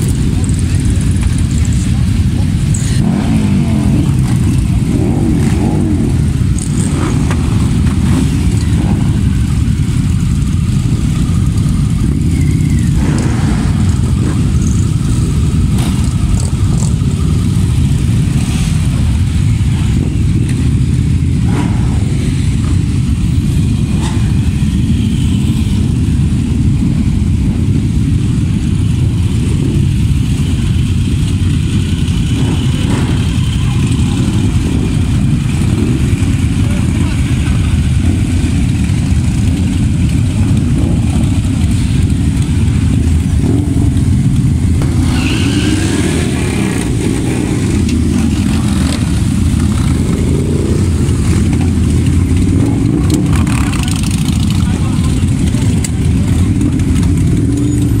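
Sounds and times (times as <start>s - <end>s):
motorcycle engines idling: 0.0s - 58.0s.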